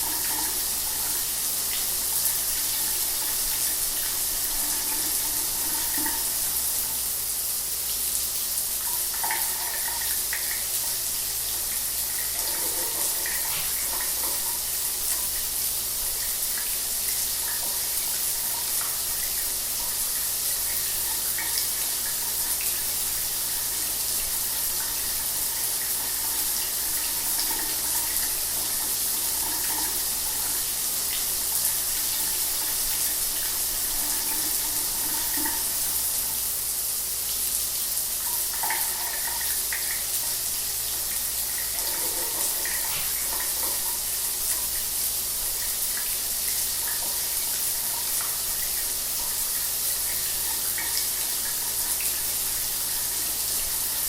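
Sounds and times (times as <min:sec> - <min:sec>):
shower water running: 0:00.0 - 0:54.0.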